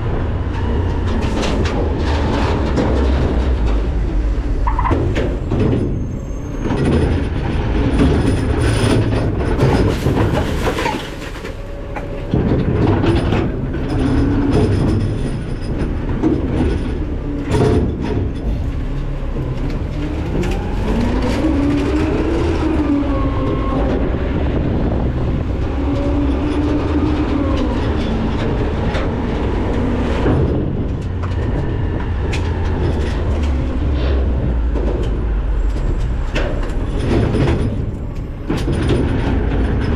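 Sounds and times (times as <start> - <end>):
garbage truck engine rumbling: 0.0 - 39.9
metal clanks and knocks: 0.4 - 22.4, 25.3 - 39.9.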